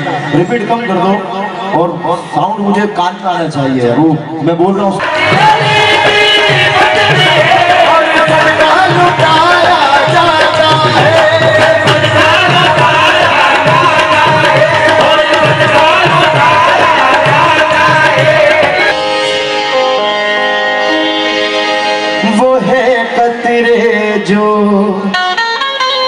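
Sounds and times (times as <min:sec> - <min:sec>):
harmonium melody: 0:00.0 - 0:26.0.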